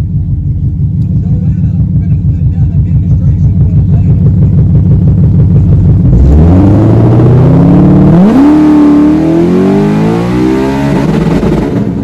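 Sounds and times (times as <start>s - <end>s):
drag car engine accelerating: 0.0s - 12.0s.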